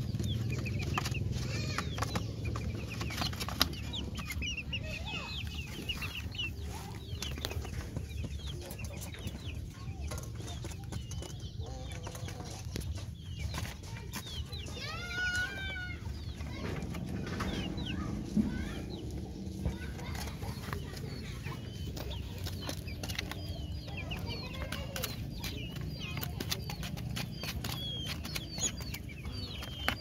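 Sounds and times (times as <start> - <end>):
chicks peeping and clucking: 0.0 - 30.0.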